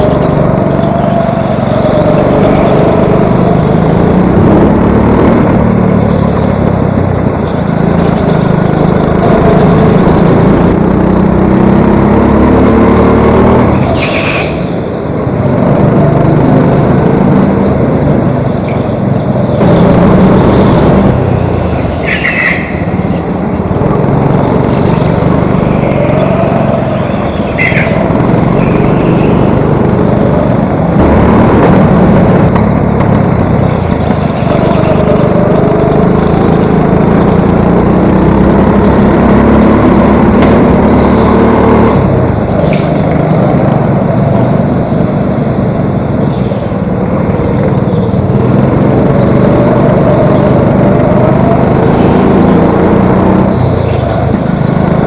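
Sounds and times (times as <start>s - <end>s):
high squeals: 0.0s - 45.1s
go-kart engines revving: 0.0s - 55.0s.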